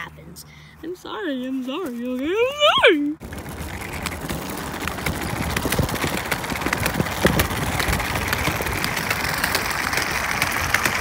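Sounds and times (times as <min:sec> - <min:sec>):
wheels clattering on concrete: 0:02.0 - 0:11.0.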